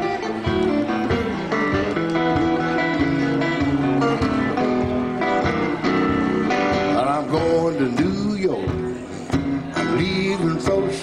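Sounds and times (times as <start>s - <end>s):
electric guitar playing blues: 0.0s - 11.0s.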